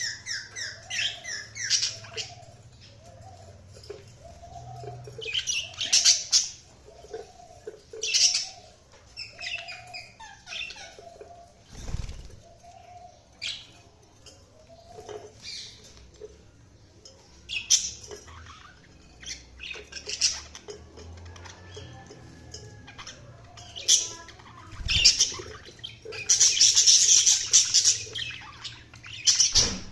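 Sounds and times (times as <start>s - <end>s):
budgerigars chirping and squawking: 0.0s - 16.4s, 17.1s - 29.9s.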